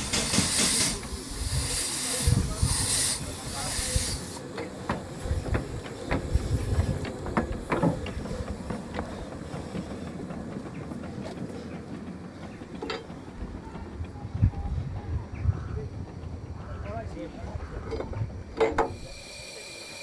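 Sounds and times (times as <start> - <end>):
steam hissing: 0.0 - 15.4, 18.4 - 20.0
train wheels clanking over rail joints: 0.0 - 20.0.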